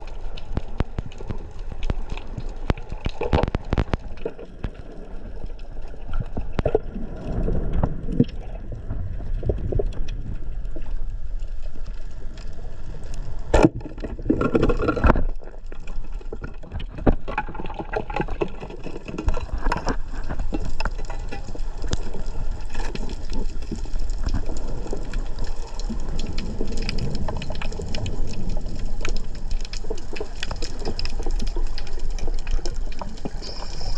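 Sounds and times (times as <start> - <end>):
underwater rumbling wash: 0.0 - 33.9.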